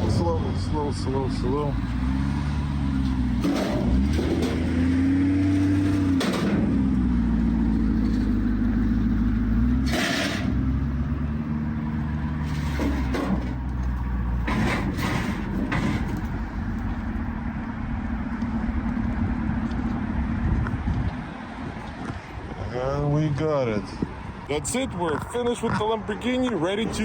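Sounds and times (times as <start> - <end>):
vehicle engine running at low revs: 0.0 - 22.7.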